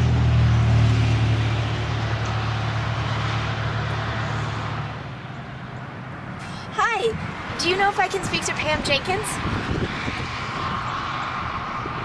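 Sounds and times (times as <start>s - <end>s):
traffic noise: 0.0s - 12.0s
vehicle engine humming: 0.0s - 12.0s.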